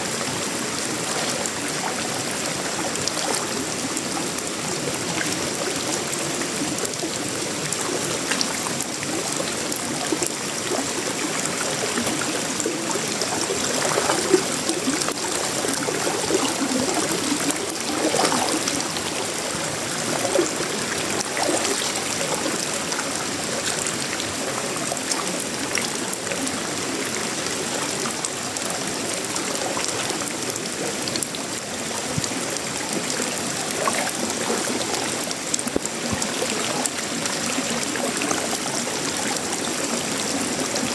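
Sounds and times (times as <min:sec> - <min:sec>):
rain on metal roof and leaves: 0:00.0 - 0:40.9
runoff water trickling: 0:00.0 - 0:40.9.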